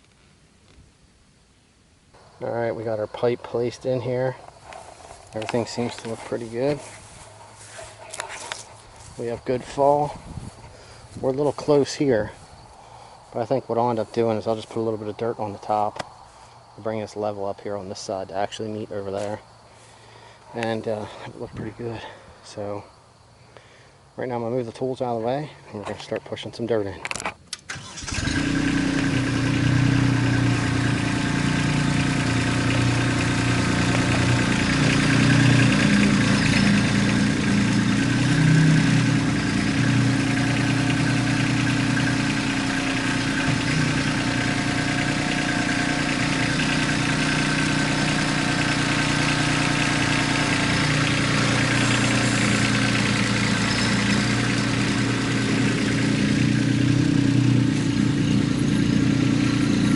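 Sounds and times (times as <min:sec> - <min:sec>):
tractor diesel engine running: 0:02.2 - 0:22.8, 0:27.5 - 0:59.9.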